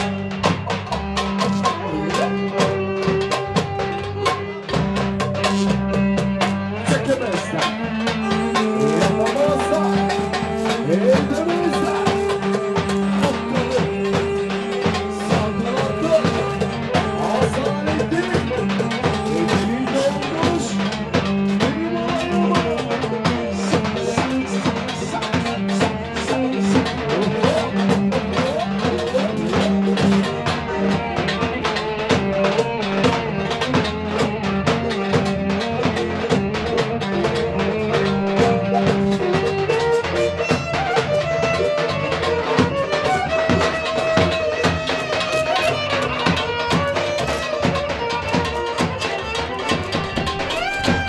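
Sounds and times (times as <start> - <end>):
dance music with busy drum beat: 0.0 - 51.0.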